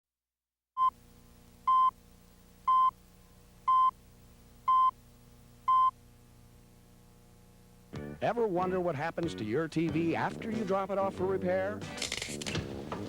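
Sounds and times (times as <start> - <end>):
faint electrical hum: 0.8 - 13.0.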